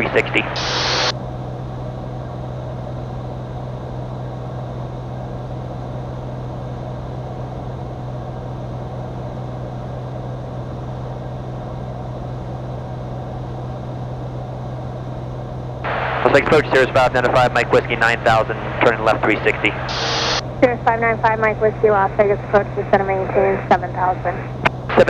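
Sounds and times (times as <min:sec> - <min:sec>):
aircraft engine and propeller droning: 0:00.0 - 0:25.0.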